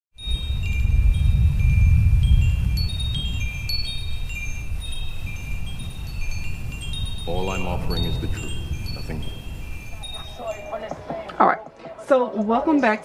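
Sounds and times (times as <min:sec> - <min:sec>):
low rumble: 0:00.2 - 0:11.2
wind chimes tinkling: 0:00.2 - 0:11.5.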